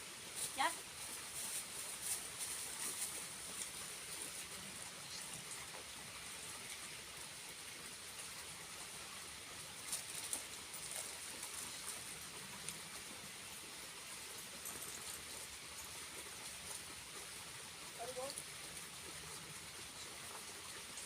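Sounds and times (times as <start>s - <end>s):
small waterfall hissing: 0.0s - 21.0s.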